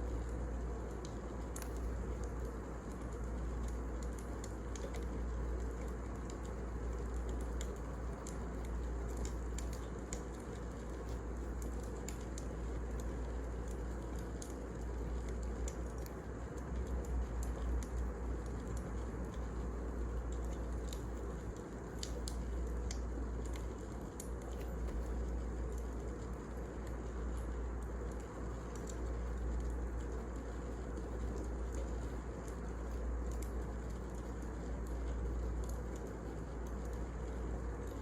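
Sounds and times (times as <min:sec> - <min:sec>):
wood fire burning: 0:00.0 - 0:38.0
crackles and pops of firewood: 0:00.3 - 0:38.0.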